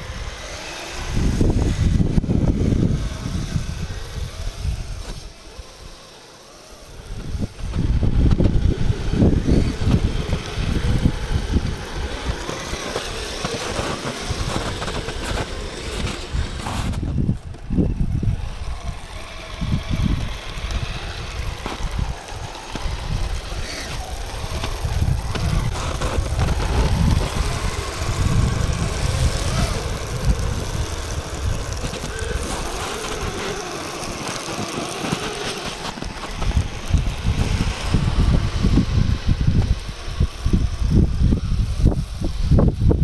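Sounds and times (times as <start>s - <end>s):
wind on microphone: 0.0s - 6.1s, 6.8s - 43.0s
electric motors whining: 0.0s - 43.0s.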